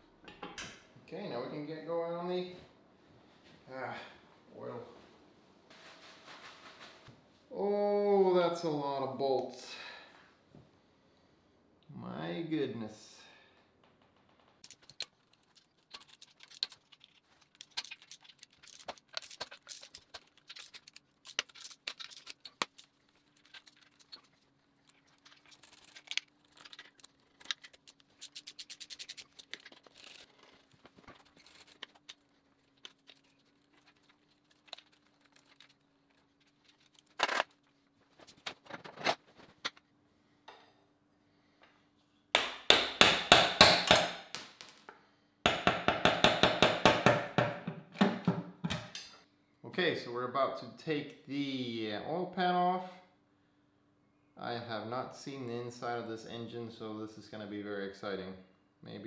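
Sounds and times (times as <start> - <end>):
faint steady hum: 7.1 - 59.0.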